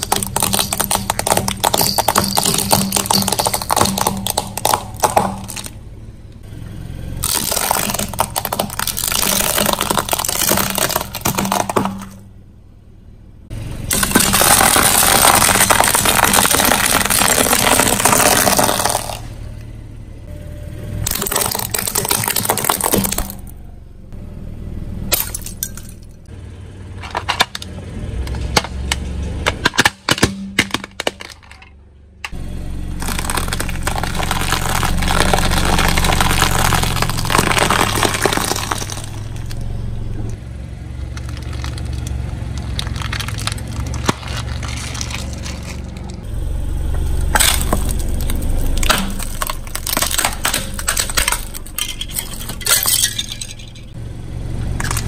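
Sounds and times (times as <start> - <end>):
objects cracking under car tyre: 0.0 - 6.5, 7.2 - 12.4, 13.9 - 19.7, 21.0 - 23.6, 25.1 - 26.2, 27.0 - 46.3, 46.9 - 54.0, 54.6 - 55.0
car rumble: 0.0 - 55.0.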